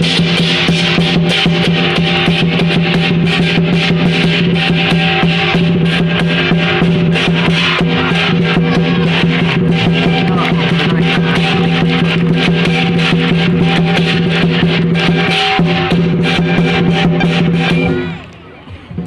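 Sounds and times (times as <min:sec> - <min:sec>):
clashing cymbals: 0:00.0 - 0:18.3
drum beaten fast: 0:00.0 - 0:19.0.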